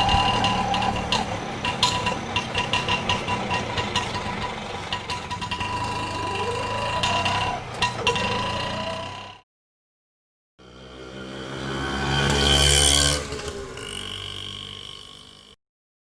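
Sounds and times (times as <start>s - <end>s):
auto rickshaw engine driving past: 0.0s - 9.4s, 10.6s - 15.6s.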